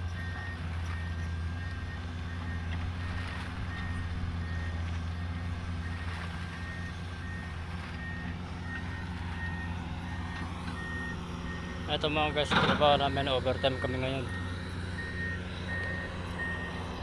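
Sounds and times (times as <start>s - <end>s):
backup alarm beeping: 0.0s - 17.0s
excavator diesel engine running: 0.0s - 17.0s.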